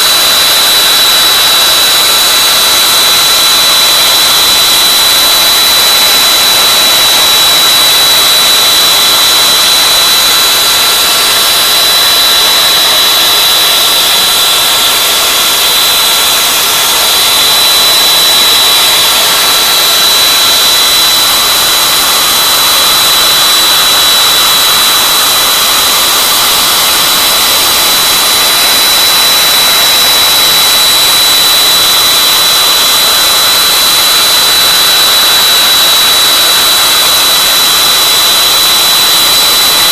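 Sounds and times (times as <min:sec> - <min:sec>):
router spindle high-pitched whine: 0:00.0 - 0:39.9.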